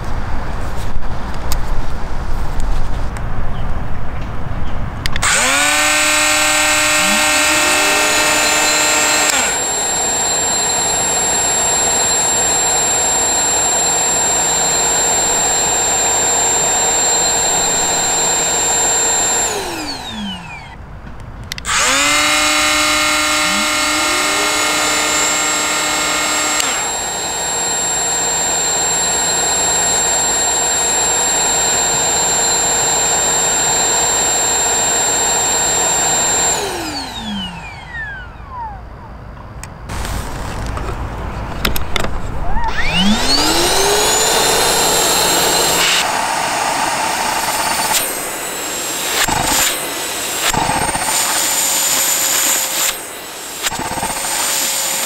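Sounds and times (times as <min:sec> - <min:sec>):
cordless angle grinder running: 0:05.2 - 0:20.8, 0:21.5 - 0:38.6, 0:42.7 - 0:55.0
dust extractor motor whine: 0:05.2 - 0:20.8, 0:21.5 - 0:38.9, 0:42.7 - 0:55.0.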